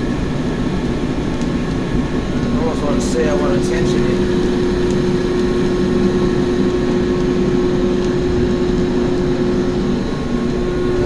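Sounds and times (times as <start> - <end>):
blower rushing air: 0.0 - 11.0
motor hum: 0.0 - 11.0.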